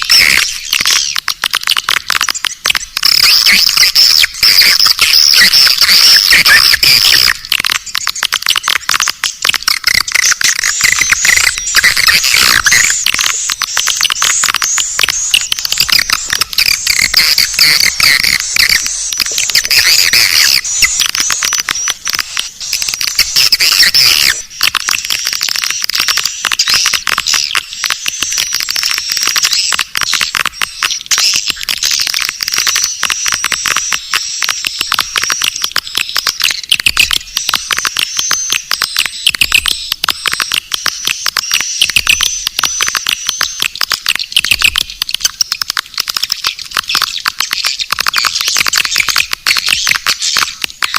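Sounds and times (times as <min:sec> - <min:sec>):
swiftlet twittering calls: 0:00.0 - 0:50.9.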